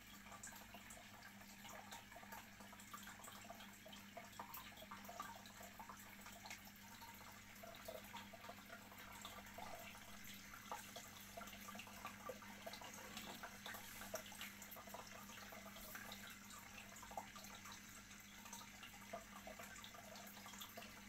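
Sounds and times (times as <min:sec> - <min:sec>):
low steady hum: 0:00.0 - 0:21.0
water bubbling and trickling: 0:00.0 - 0:21.0.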